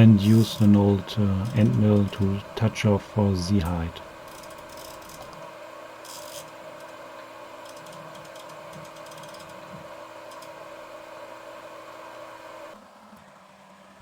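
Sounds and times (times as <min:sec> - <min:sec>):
machine motors humming: 0:00.0 - 0:14.0.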